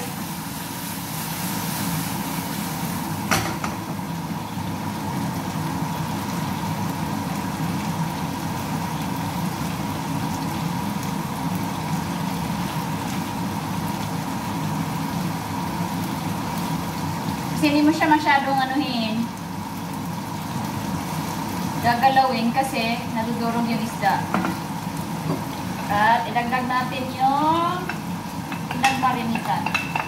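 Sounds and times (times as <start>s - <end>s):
range hood fan whirring: 0.0s - 30.0s.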